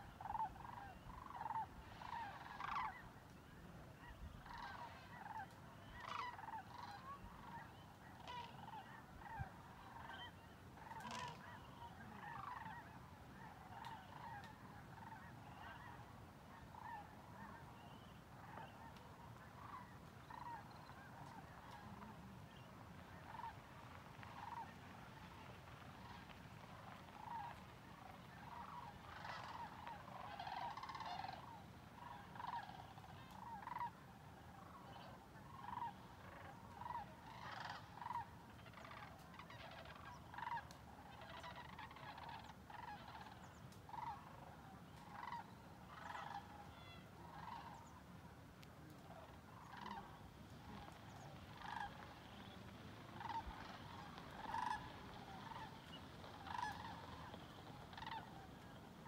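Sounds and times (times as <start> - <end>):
cranes calling: 0.0 - 3.4, 4.0 - 48.2, 48.9 - 59.0.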